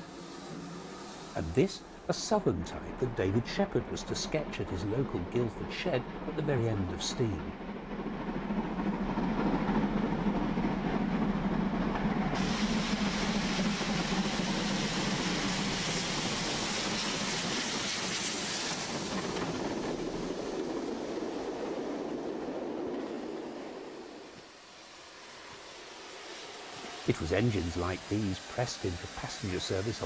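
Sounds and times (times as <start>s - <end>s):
steam locomotive working hard: 0.0s - 21.6s, 22.9s - 30.0s
train coaches running on track: 0.0s - 30.0s.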